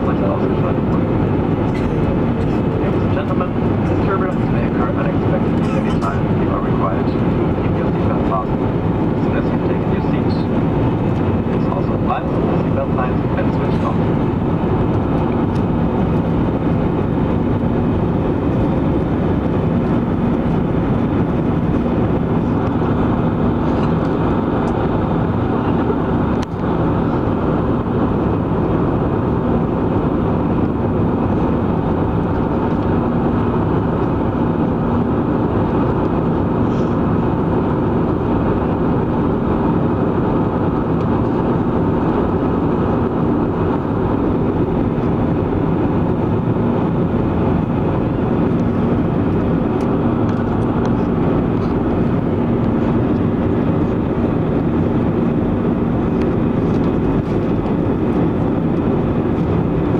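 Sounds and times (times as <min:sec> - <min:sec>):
jet engine and airflow noise: 0:00.0 - 0:59.9
low steady hum: 0:00.0 - 0:59.9.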